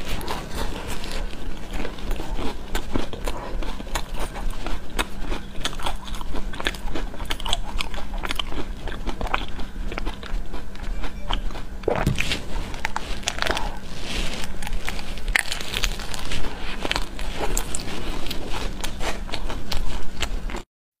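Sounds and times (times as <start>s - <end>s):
chocolate shell crunching: 0.1s - 20.6s.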